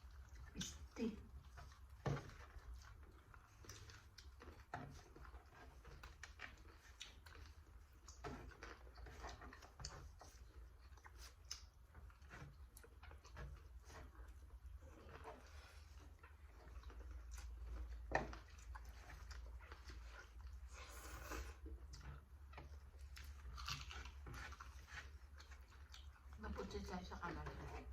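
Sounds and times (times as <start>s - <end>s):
chewing: 0.0s - 27.9s.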